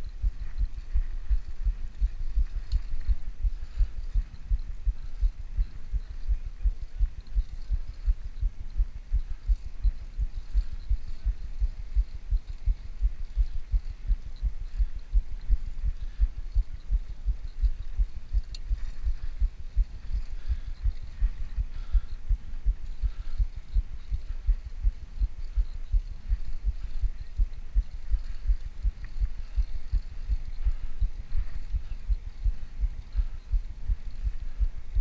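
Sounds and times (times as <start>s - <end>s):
bicycle road rumble thumps: 0.0s - 35.0s
wind buffeting microphone: 0.0s - 35.0s.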